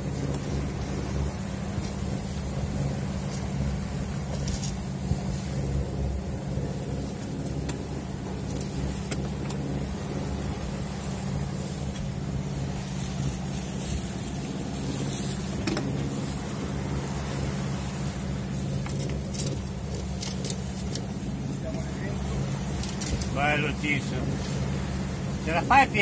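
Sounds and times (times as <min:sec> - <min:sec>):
boat engine humming: 0:00.0 - 0:26.0
water rushing along hull: 0:00.0 - 0:26.0.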